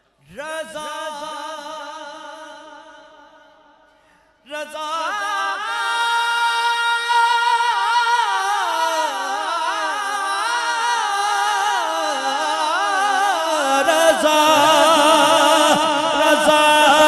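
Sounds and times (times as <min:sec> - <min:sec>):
man singing unaccompanied: 0:00.3 - 0:03.3, 0:04.5 - 0:17.0.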